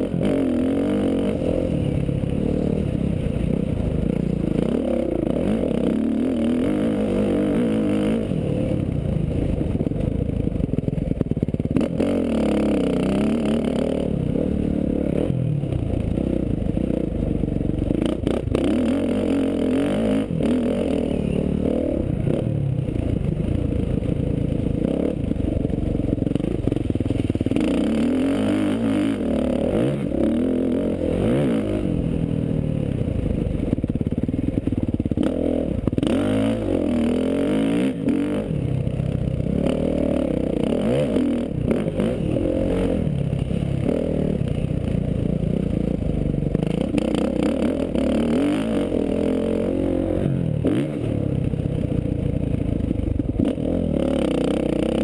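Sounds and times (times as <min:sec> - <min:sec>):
dirt bike engine revving: 0:00.0 - 0:10.0, 0:11.5 - 0:33.0, 0:35.0 - 0:38.7, 0:39.3 - 0:44.6, 0:45.8 - 0:51.9.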